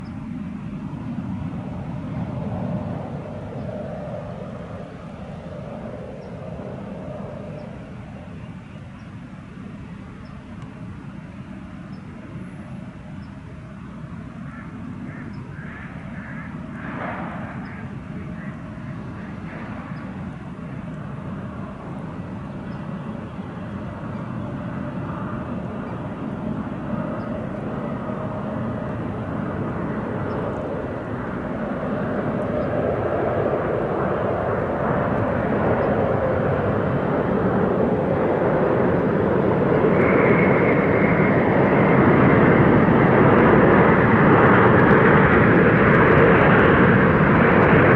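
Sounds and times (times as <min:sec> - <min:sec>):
jet engines of landing airliner: 0:00.0 - 0:47.9.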